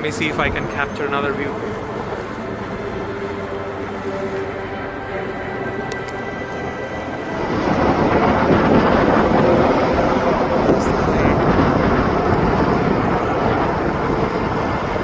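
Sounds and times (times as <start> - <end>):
vehicles passing on bridge: 0.0 - 15.0
wind on microphone: 0.0 - 15.0.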